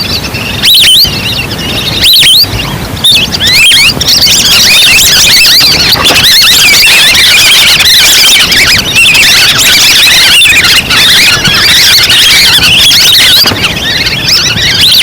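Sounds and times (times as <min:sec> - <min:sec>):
recorded duck calls: 0:00.0 - 0:15.0.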